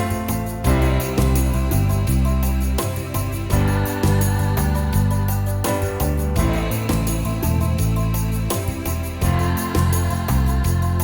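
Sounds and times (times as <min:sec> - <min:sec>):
instrumental music with steady bass: 0:00.0 - 0:11.0.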